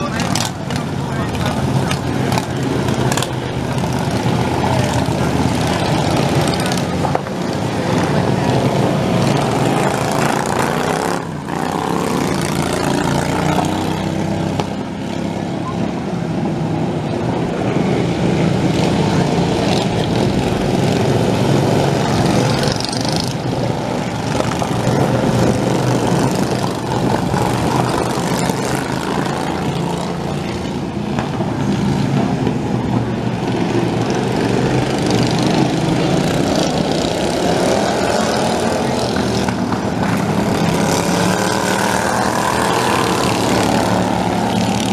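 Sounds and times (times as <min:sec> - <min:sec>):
lawn tractor engines racing: 0:00.0 - 0:44.9.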